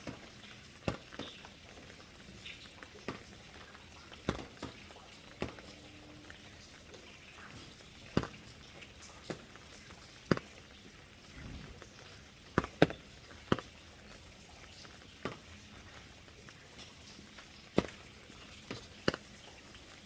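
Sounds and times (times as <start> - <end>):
raindrops tapping: 0.0 - 20.0.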